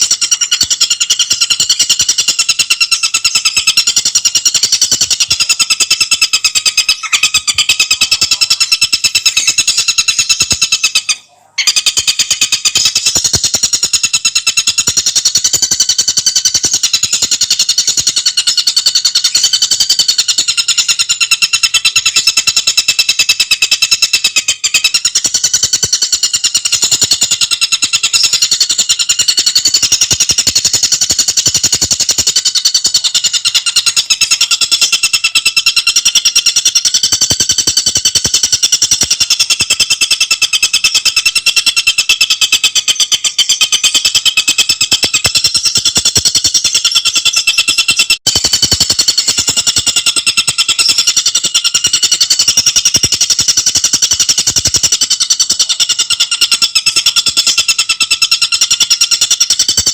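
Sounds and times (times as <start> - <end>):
bird singing chattering trill: 0.0 - 59.9.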